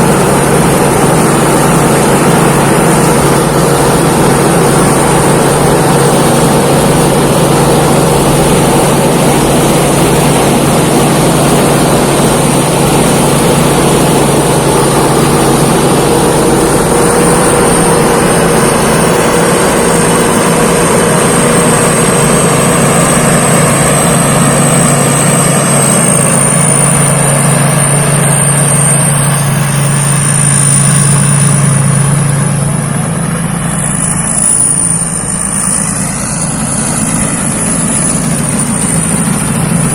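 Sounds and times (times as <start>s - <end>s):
combine harvester engine drone: 0.0s - 39.9s
high whine: 0.0s - 39.9s.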